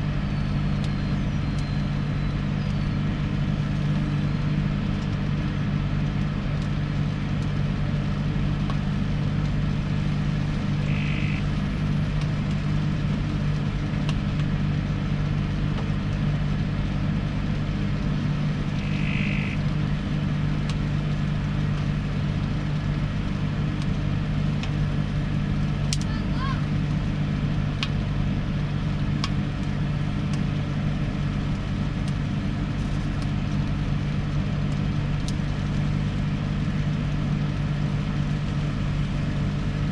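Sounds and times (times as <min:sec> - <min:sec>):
microwave oven humming: 0:00.0 - 0:39.9.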